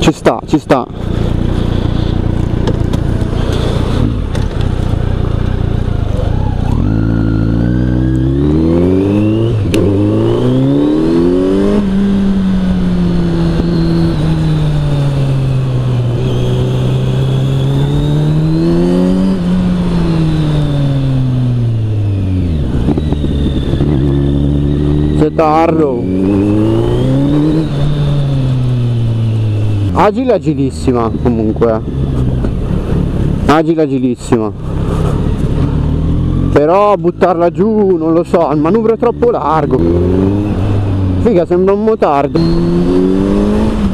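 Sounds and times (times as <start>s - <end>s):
motorcycle engine accelerating: 0.6s - 43.9s.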